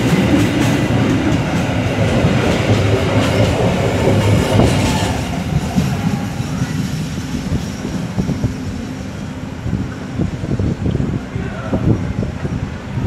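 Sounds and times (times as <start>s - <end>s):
train wheels clattering on rails: 0.0s - 11.2s.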